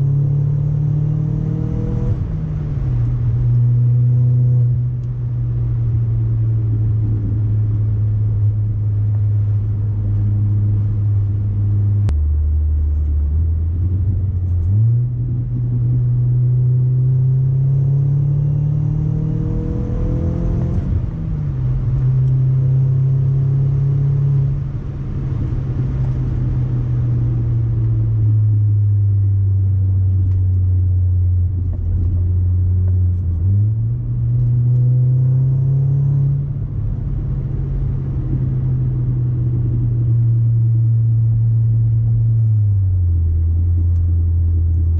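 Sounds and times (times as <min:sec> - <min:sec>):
car engine droning: 0:00.0 - 0:44.9.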